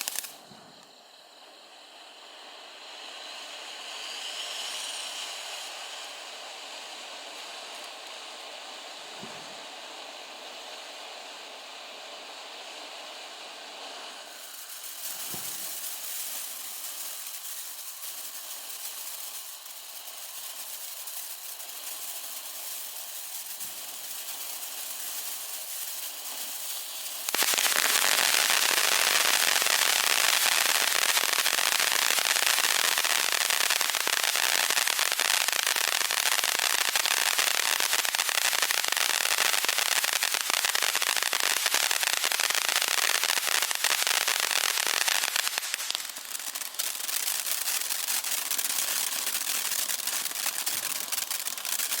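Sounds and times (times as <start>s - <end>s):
firework fountain hissing and crackling: 0.0s - 52.0s.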